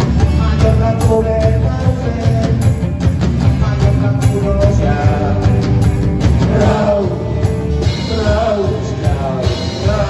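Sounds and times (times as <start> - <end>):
drum kit beat: 0.0 - 10.0
electric guitars: 0.0 - 10.0.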